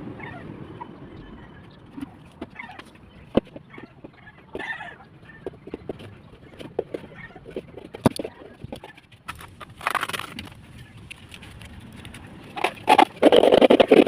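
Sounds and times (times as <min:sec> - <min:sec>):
birds moving about: 0:00.0 - 0:14.0.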